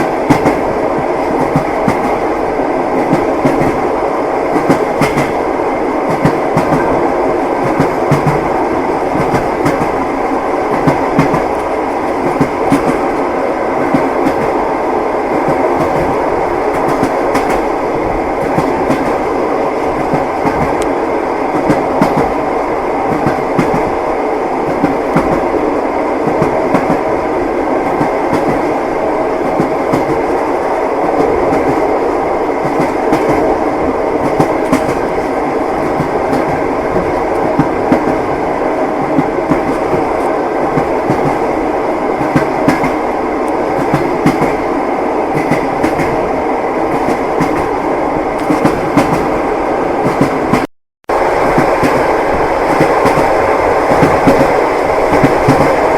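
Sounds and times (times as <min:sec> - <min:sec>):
railway carriage running noise: 0:00.0 - 0:55.9.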